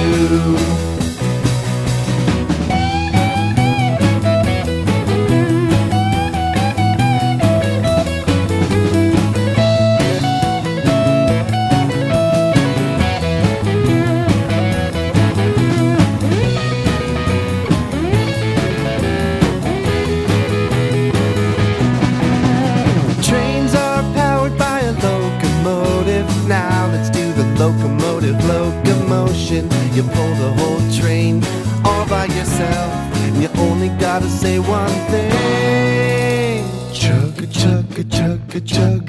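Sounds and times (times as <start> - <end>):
steady drum beat: 0.0 - 38.3
bass guitar: 0.0 - 39.0
electric guitar lead: 0.0 - 39.0.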